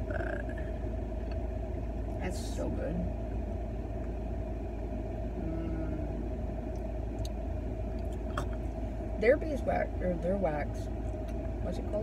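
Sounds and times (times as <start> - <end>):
car air conditioning fan blowing: 0.0 - 12.0
idling engine rumble: 0.0 - 12.0.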